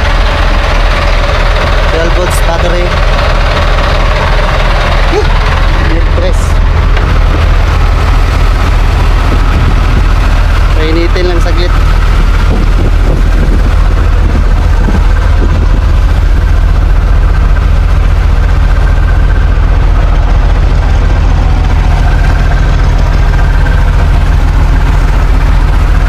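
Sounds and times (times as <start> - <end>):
boat engine humming: 0.0 - 26.0.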